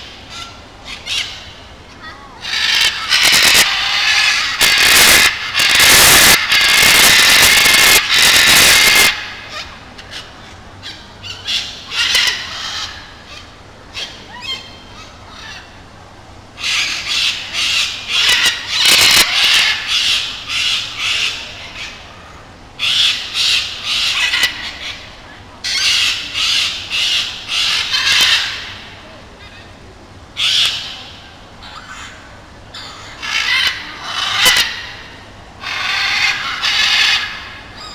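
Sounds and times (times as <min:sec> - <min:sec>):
parrots squawking: 0:00.3 - 0:15.7, 0:16.6 - 0:22.0, 0:22.8 - 0:28.8, 0:30.4 - 0:31.0, 0:31.6 - 0:37.9.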